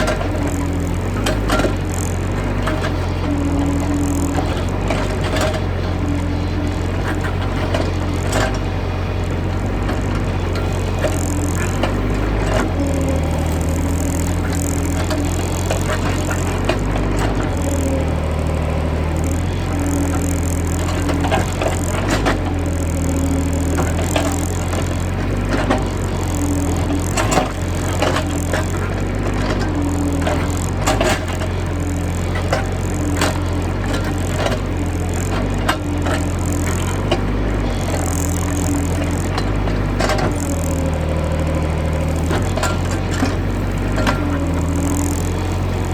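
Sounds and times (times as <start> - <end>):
excavator diesel engine running: 0.0 - 45.9
hydraulic tone: 0.0 - 45.9.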